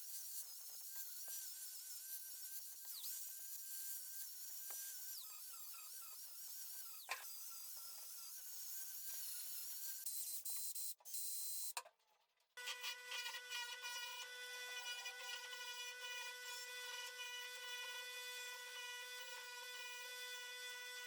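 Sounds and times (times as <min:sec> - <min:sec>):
power tool whining on metal: 0:00.0 - 0:10.7, 0:12.6 - 0:21.0.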